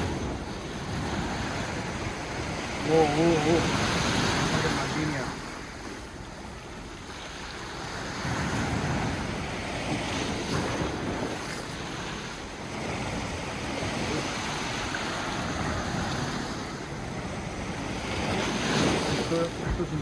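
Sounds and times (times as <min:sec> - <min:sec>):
wind buffeting microphone: 0:00.0 - 0:06.9, 0:07.7 - 0:20.0
waves breaking on shore: 0:00.0 - 0:20.0.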